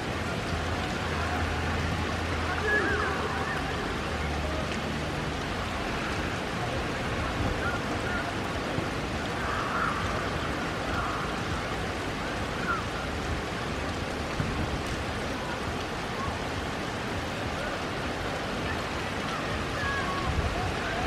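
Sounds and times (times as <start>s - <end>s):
heavy rain on pavement and grass: 0.0s - 21.0s.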